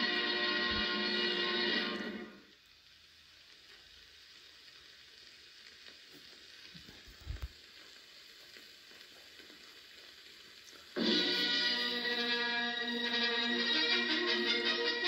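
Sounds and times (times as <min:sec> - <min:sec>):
faint hiss with crackle: 0:00.0 - 0:15.0.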